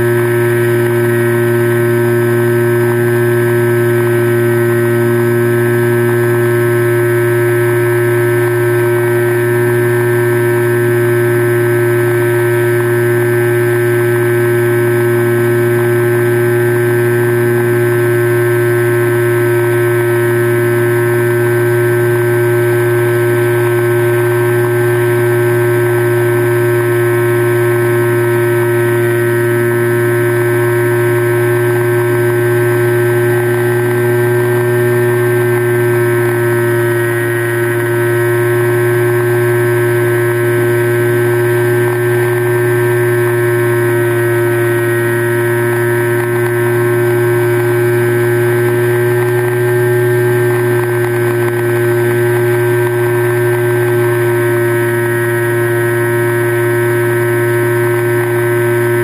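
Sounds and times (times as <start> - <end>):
model aircraft motor droning: 0.0 - 59.0.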